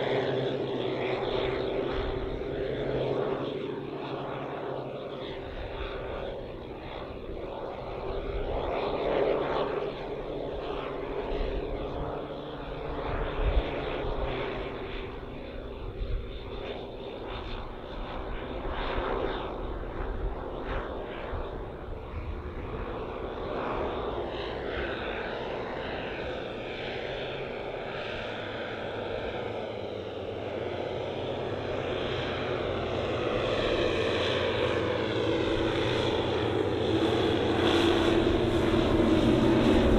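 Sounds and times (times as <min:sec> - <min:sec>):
model aircraft engines droning: 0:00.0 - 0:39.9.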